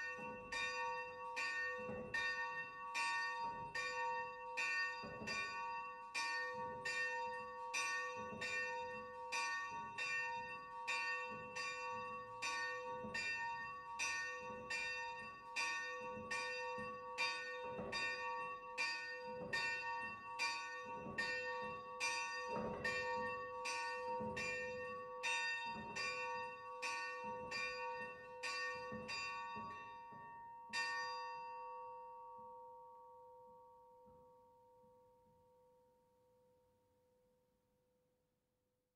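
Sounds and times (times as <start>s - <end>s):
small church bell ringing: 0.0s - 35.2s.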